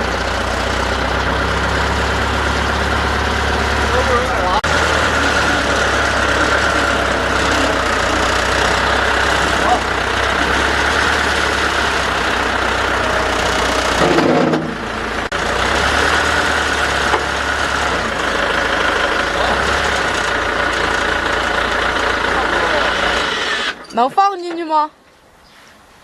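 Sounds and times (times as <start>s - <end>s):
engine idling: 0.0s - 23.9s.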